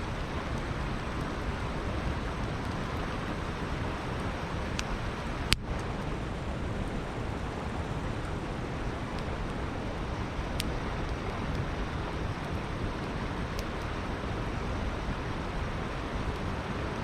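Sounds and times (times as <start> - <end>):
campfire crackling: 0.0 - 17.0
river flowing: 0.0 - 17.0.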